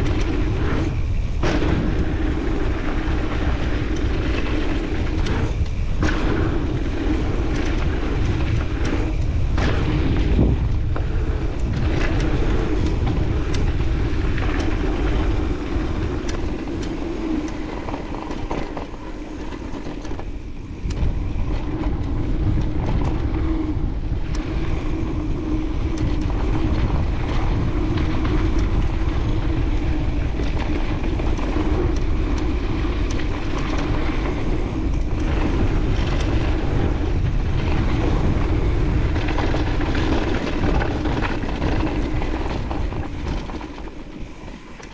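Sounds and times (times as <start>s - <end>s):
bike clicking and rattling: 0.0s - 44.9s
bike tyre noise: 0.0s - 44.9s
wind rumbling on microphone: 0.0s - 44.9s.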